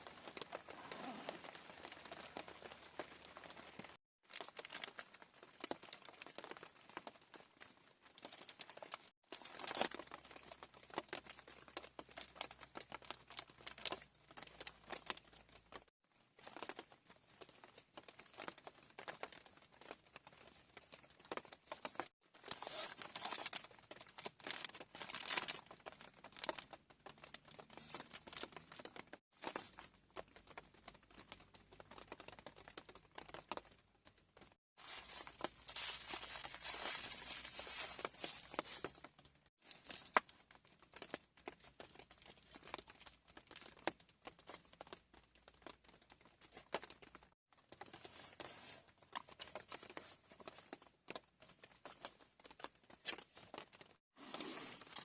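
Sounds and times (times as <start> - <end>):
tent fabric crinkling: 0.0 - 19.5, 21.3 - 55.0.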